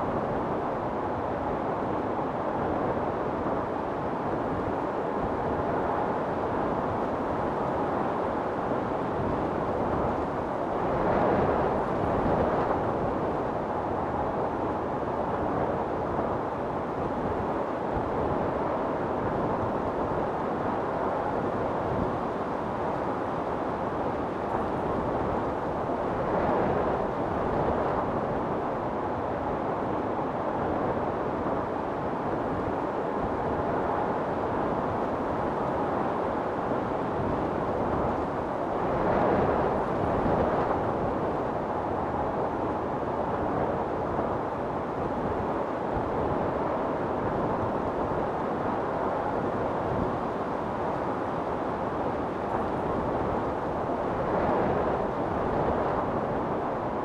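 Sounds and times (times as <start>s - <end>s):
strong wind blowing: 0.0s - 57.0s.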